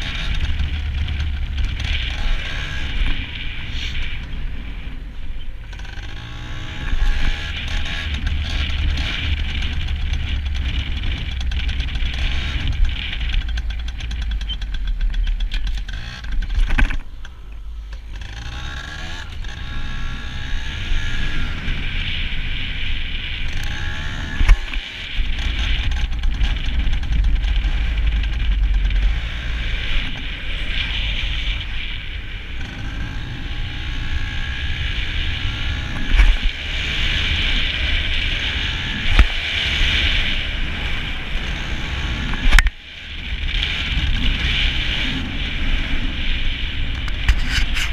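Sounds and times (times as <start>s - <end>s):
two-stroke motorbike engine revving: 0.0s - 47.9s.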